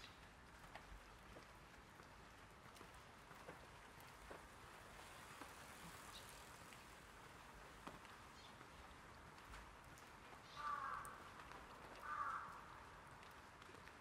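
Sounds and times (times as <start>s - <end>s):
rain hissing on umbrella: 0.0s - 14.0s
raindrop ticks: 0.0s - 14.0s.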